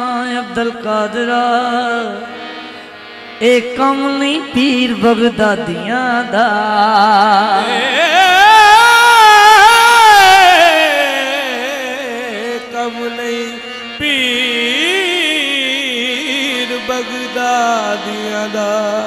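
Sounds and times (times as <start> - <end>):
harmonium notes: 0.0 - 19.0
person singing with vibrato: 0.0 - 19.0.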